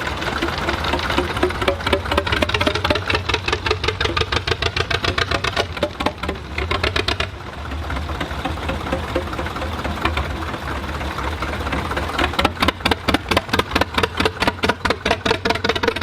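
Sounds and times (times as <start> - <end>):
smoother engine sound: 0.0 - 16.0
tractor diesel engines knocking: 0.0 - 16.0.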